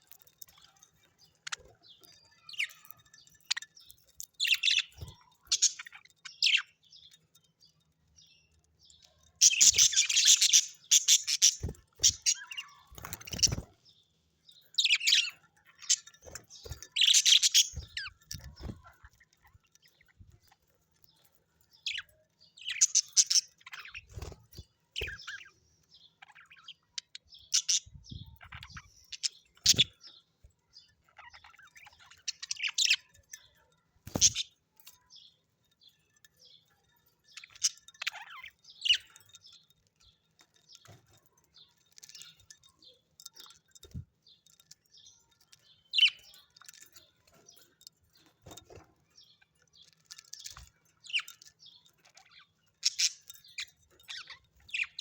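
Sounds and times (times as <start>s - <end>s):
pet birds chirping: 0.0s - 55.0s.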